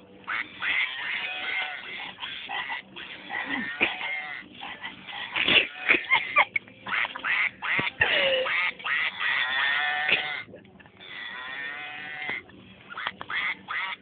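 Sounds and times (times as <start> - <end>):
toy quacking: 0.3 - 14.0.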